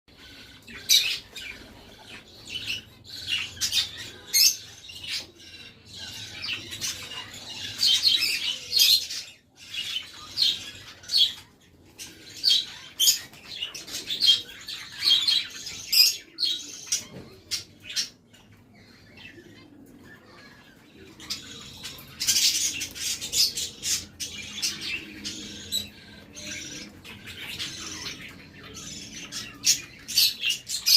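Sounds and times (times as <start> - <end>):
parrots chirping and squawking: 0.1 - 30.9.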